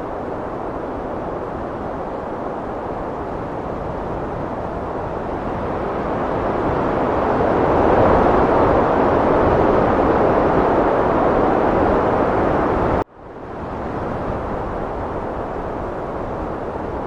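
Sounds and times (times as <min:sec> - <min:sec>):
heavy wind roaring: 0:00.0 - 0:17.0.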